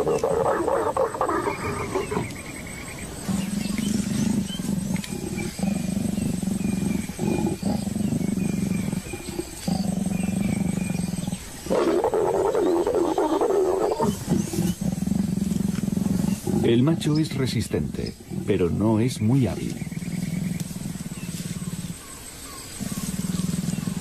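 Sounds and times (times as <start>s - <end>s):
leopards growling and snarling: 0.0s - 24.0s
low leopard tones: 0.0s - 24.0s.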